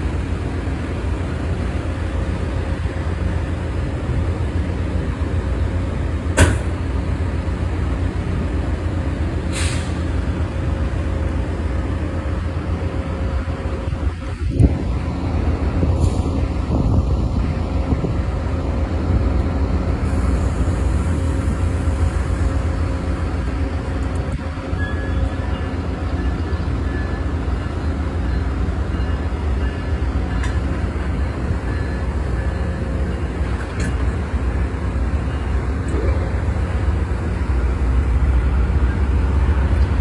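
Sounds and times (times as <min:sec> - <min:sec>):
passenger train rumbling: 0:00.0 - 0:40.0.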